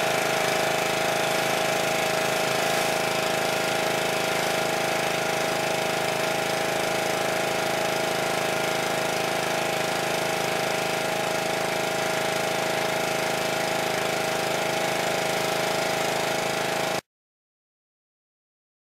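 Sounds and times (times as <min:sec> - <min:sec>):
pressure washer engine: 0:00.0 - 0:17.0
water jet spraying on bricks: 0:00.0 - 0:17.0.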